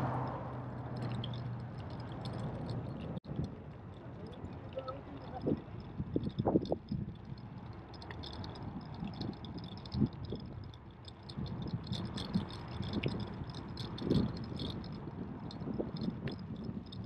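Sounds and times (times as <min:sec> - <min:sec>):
bicycle rattling and ticking: 0:00.0 - 0:17.0
bicycle tyres rumbling: 0:00.0 - 0:17.0
wind on microphone: 0:00.0 - 0:17.0.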